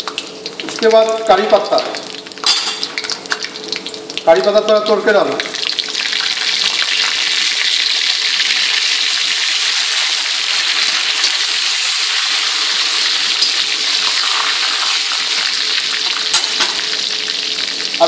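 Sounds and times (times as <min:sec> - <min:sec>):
leaves sizzling in hot oil: 0:00.0 - 0:18.0.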